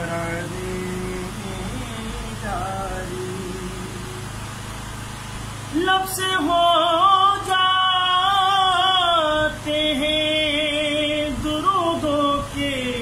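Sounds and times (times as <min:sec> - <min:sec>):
man singing unaccompanied: 0:00.0 - 0:04.6, 0:05.6 - 0:13.0.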